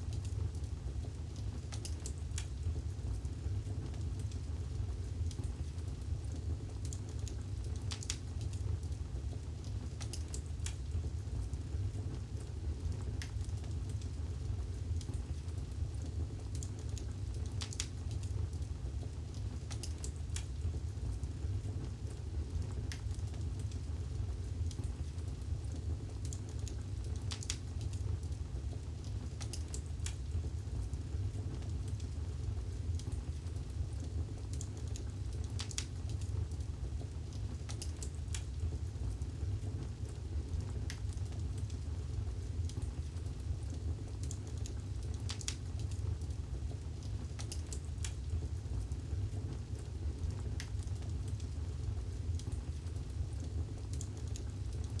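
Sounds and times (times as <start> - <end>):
fire flames rumbling: 0.0 - 55.0
logs crackling and popping: 0.1 - 55.0.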